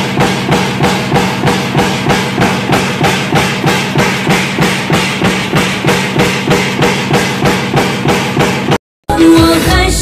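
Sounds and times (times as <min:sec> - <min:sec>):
machine hum: 0:00.0 - 0:08.8
stamping press striking metal: 0:00.0 - 0:08.8.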